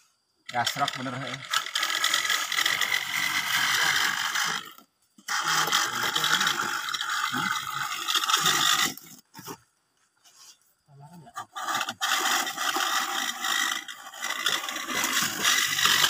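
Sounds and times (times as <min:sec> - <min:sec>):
template scraping wet mortar: 0:00.5 - 0:09.6, 0:11.3 - 0:16.0.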